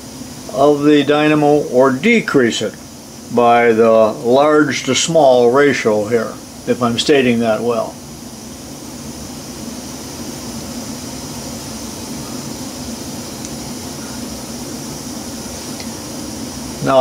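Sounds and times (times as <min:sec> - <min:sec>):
model steam engine running: 0:00.0 - 0:08.0, 0:09.4 - 0:17.0
hiss of air: 0:00.0 - 0:17.0.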